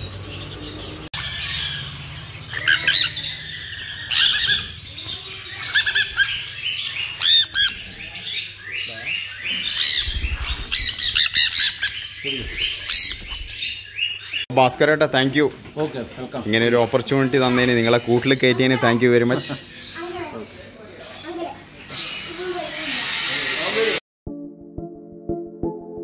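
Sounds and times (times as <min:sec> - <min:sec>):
birds squawking and chirping: 0:00.0 - 0:24.0.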